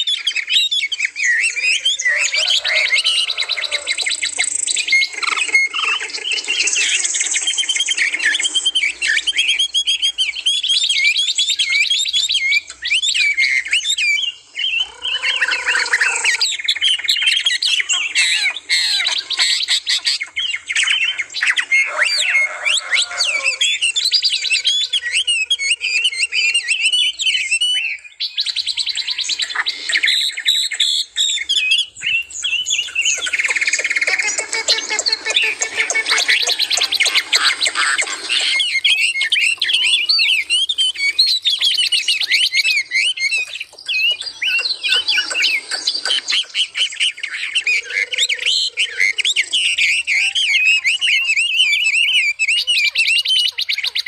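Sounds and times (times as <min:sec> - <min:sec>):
lower longer bird calls: 0:00.0 - 0:54.0
songbirds chirping and trilling: 0:00.0 - 0:54.0.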